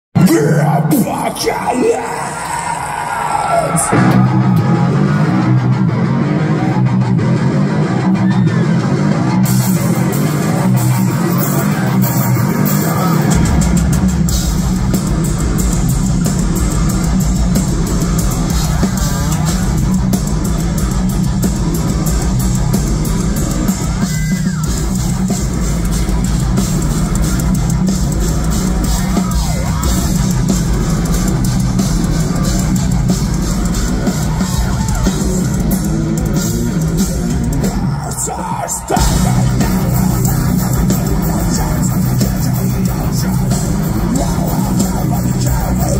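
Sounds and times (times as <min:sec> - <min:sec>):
drum kit: 0:00.2 - 0:02.7, 0:03.7 - 0:45.9
distorted electric guitars: 0:00.2 - 0:45.9
heavy low bass: 0:00.2 - 0:45.9.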